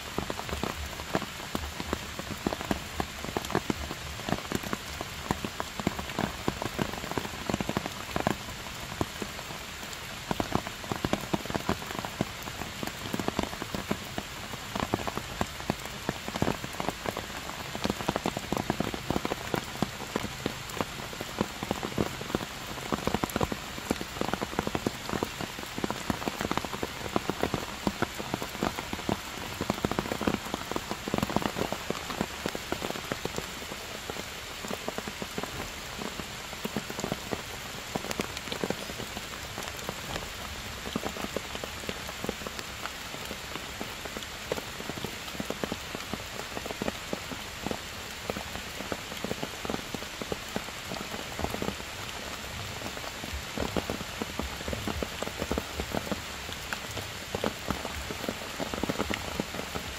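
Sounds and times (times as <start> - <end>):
heavy rain on stone and foliage: 0.0 - 59.9.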